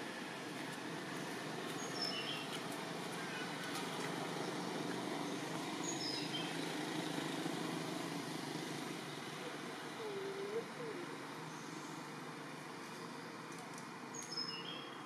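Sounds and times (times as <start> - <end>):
forest background noise: 0.0 - 15.0.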